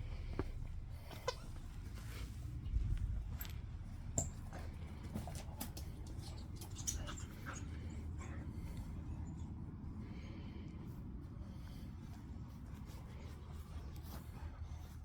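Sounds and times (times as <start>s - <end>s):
steady low rumble: 0.0s - 15.0s
dogs playing: 0.1s - 15.0s.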